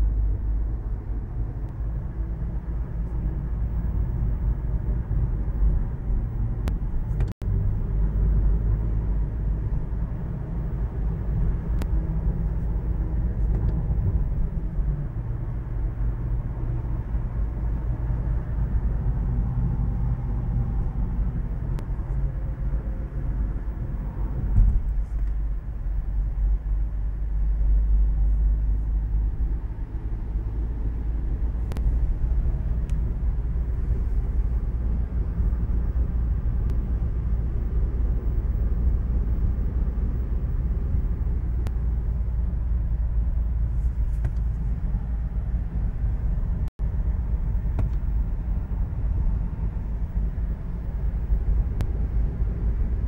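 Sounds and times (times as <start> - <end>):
car cabin road and engine noise: 0.0 - 53.0.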